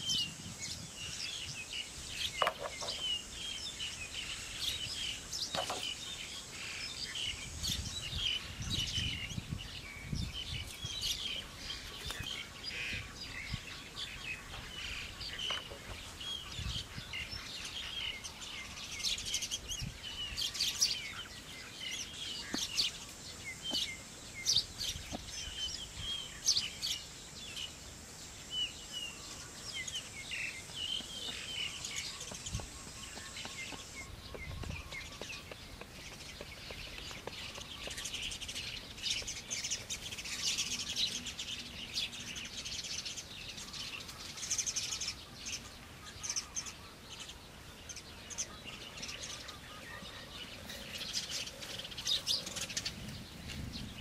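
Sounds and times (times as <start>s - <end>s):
forest birds chirping: 0.0s - 54.0s.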